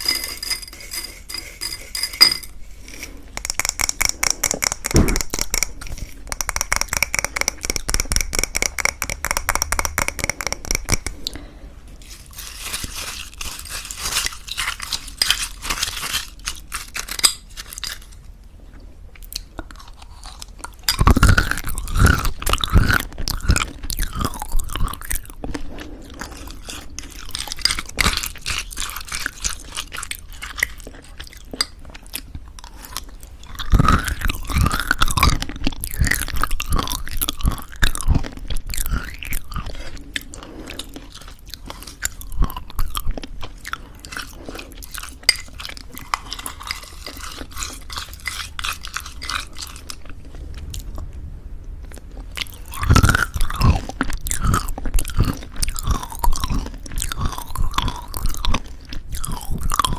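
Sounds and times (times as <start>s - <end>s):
chewing and crunching granola: 2.8s - 51.0s, 51.8s - 59.9s.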